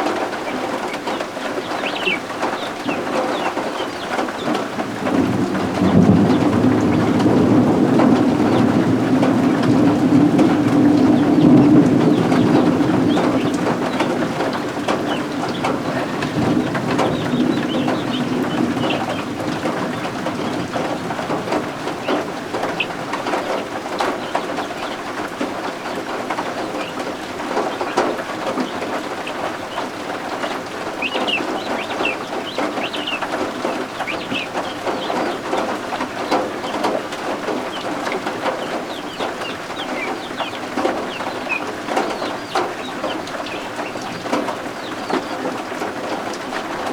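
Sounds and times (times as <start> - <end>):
keets peeping: 0.0 - 7.4, 8.0 - 46.9
rain hissing: 0.0 - 46.9
thunder rumbling: 0.1 - 46.9.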